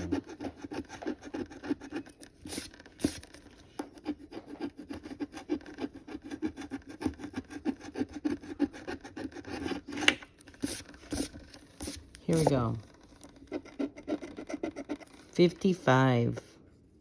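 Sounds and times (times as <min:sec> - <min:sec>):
lottery ticket being scratched: 0:00.0 - 0:16.5.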